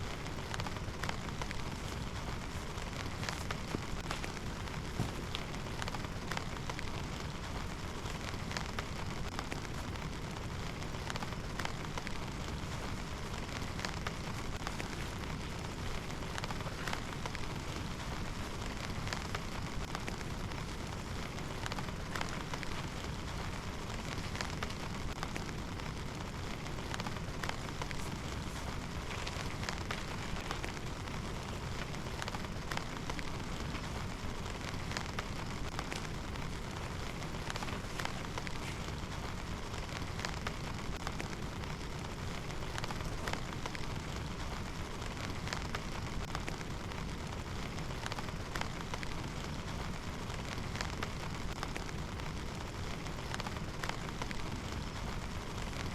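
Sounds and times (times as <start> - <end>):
raindrops ticking on a surface: 0.0 - 55.9
steady rain falling: 0.0 - 55.9.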